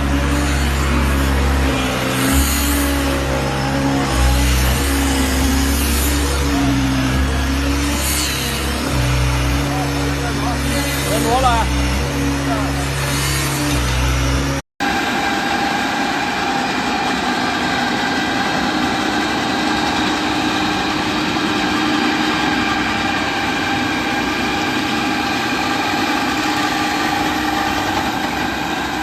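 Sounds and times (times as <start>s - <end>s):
machine engine humming: 0.0s - 29.0s.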